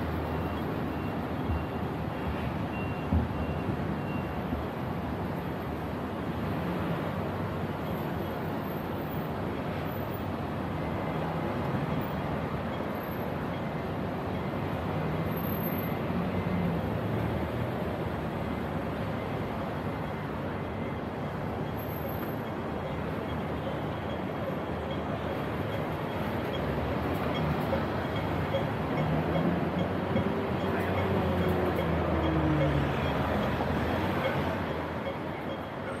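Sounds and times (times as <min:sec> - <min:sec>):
street traffic: 0:00.0 - 0:36.0.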